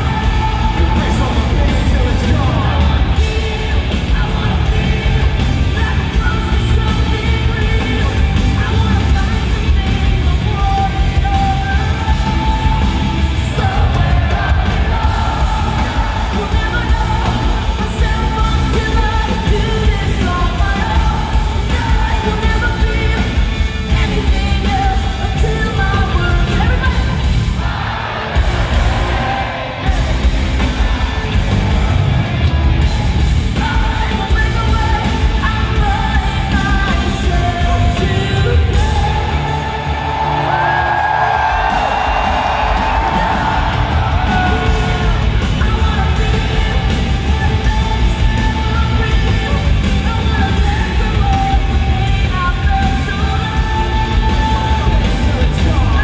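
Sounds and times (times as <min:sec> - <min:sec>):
lead vocal singing and shouting: 0:00.0 - 0:56.0
live rock band playing: 0:00.0 - 0:56.0.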